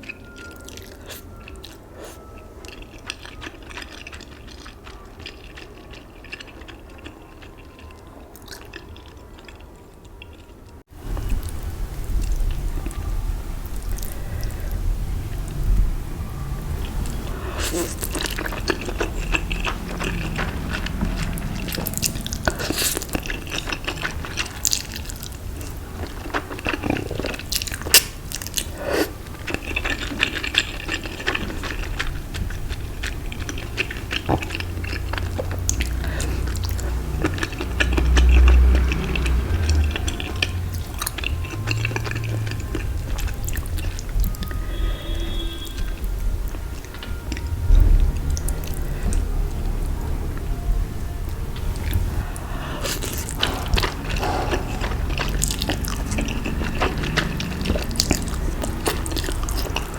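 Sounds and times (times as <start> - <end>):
person chewing and biting food: 0.0 - 10.5, 16.6 - 50.7, 51.3 - 59.9.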